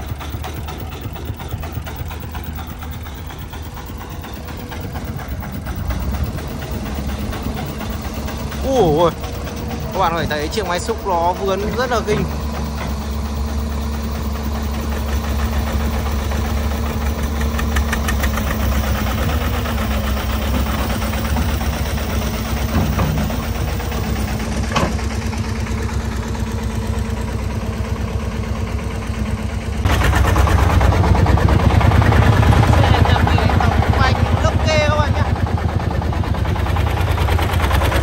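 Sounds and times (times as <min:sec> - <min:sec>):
diesel engines chugging: 0:00.0 - 0:38.0
excavator digging dirt: 0:00.0 - 0:38.0.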